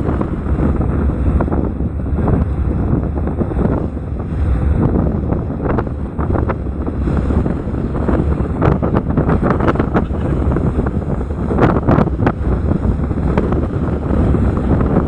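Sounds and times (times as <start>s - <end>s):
boat engine rumble: 0.0s - 15.0s
water noise: 0.0s - 15.0s
wind buffeting microphone: 0.0s - 15.0s.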